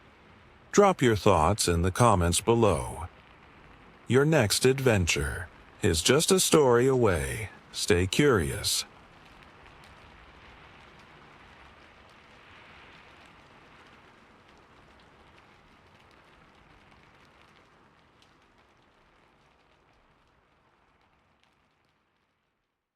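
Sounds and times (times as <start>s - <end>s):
faint rain on a surface: 0.0s - 22.9s.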